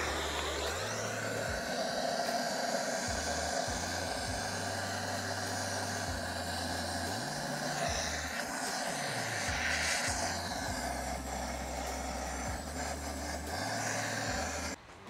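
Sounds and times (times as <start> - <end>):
gas torch hissing: 0.0 - 14.8.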